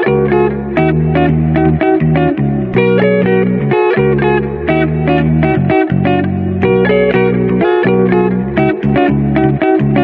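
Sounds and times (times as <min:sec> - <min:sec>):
plucked notes: 0:00.0 - 0:10.0
sustained bass line: 0:00.0 - 0:10.0.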